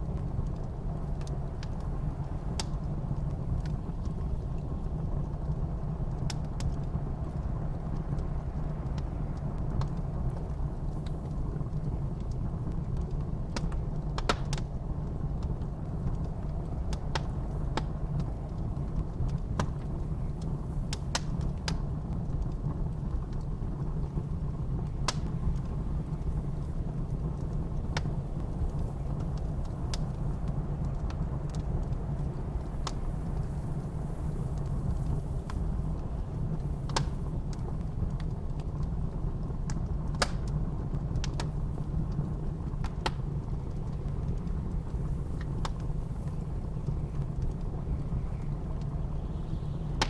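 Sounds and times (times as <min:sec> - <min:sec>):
low rumble of blizzard wind: 0:00.0 - 0:50.0
sharp pops of fire: 0:00.0 - 0:50.0
wood fire crackling: 0:00.0 - 0:50.0.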